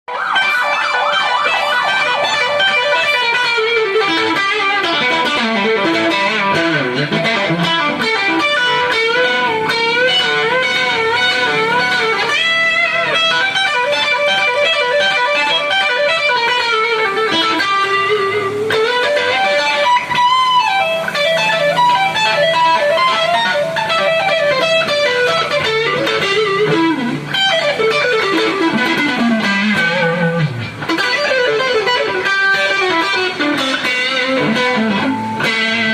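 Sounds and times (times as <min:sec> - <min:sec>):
electric guitar lead: 0:00.1 - 0:35.9.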